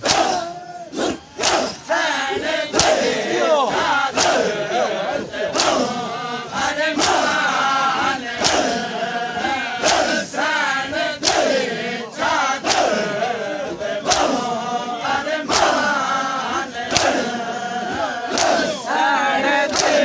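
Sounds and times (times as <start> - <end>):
crowd of men chanting: 0.0 - 20.0
crowd slapping chests: 0.0 - 20.0.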